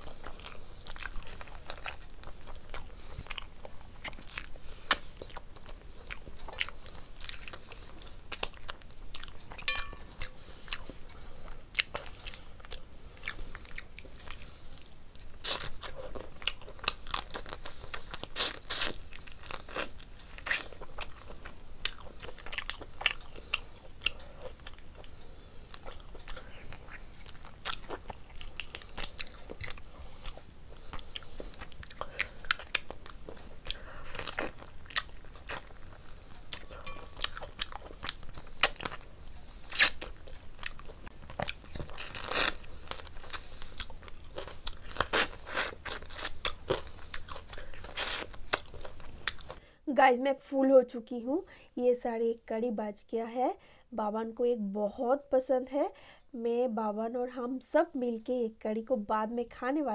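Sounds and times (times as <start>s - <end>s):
chewing food: 0.0s - 49.6s.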